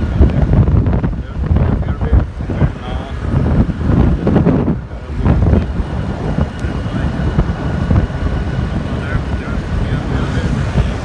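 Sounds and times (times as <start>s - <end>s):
road and traffic rumble: 0.0s - 11.0s
wind buffeting microphone: 0.0s - 11.0s.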